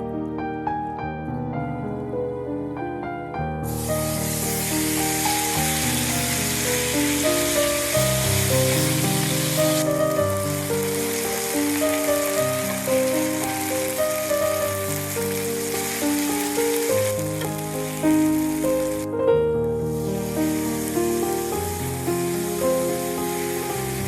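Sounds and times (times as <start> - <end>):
background music with melody: 0.0 - 24.0
food sizzling in a hot pan: 3.7 - 19.2, 19.8 - 24.0.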